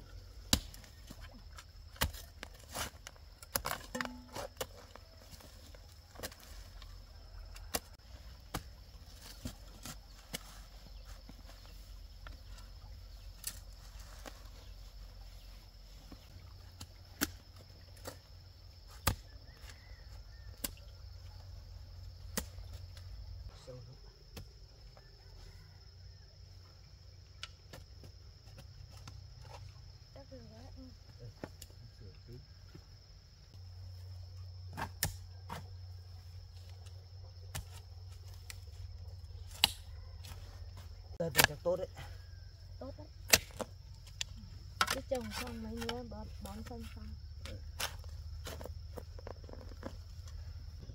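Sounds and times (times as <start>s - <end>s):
crickets chirring: 0.0s - 50.9s.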